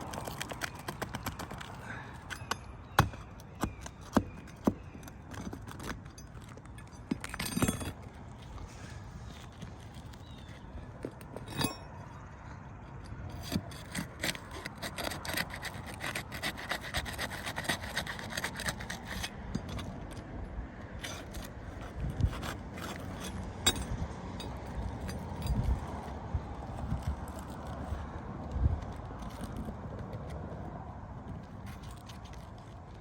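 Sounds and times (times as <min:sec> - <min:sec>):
shingles being scraped and pried: 0:00.0 - 0:12.2, 0:13.1 - 0:28.2, 0:28.8 - 0:33.0.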